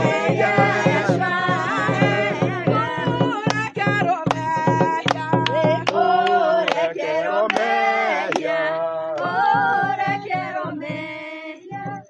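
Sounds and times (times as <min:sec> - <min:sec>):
voices singing worship song: 0:00.0 - 0:12.0.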